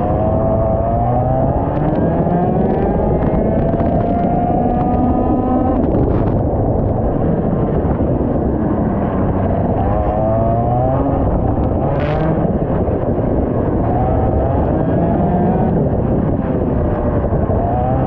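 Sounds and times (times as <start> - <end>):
kart engine accelerating: 0.0 - 18.0.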